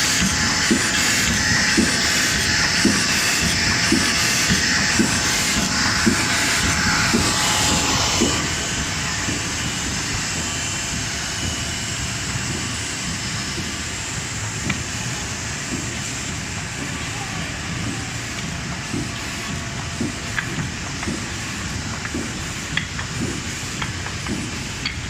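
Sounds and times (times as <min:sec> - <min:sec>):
embossing machine running: 0:00.0 - 0:25.0.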